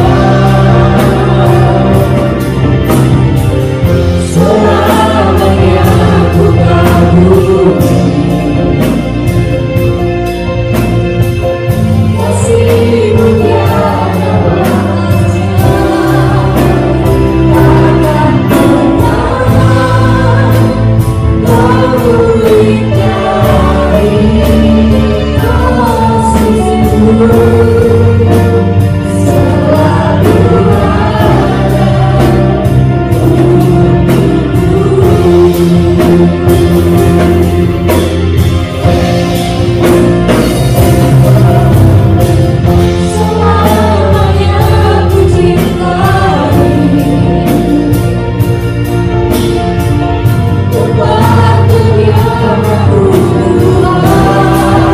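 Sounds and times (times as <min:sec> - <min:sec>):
singers in unison: 0:00.0 - 0:09.1, 0:12.0 - 0:48.2, 0:50.3 - 0:54.9
bass guitar: 0:00.0 - 0:54.9
drum kit steady beat: 0:00.0 - 0:54.9
guitar: 0:00.0 - 0:54.9
keyboard: 0:00.0 - 0:54.9.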